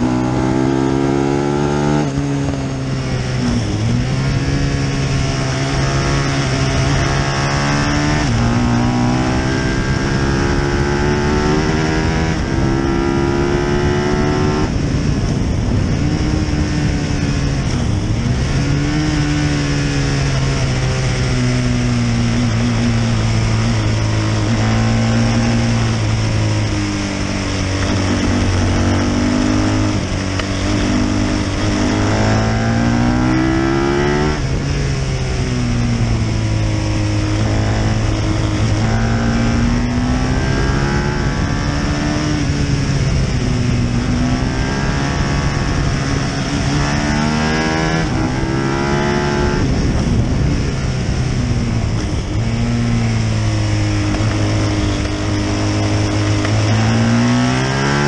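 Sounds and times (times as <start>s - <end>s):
motorcycle engine revving: 0.0s - 58.0s
wind noise on microphone: 0.0s - 58.0s.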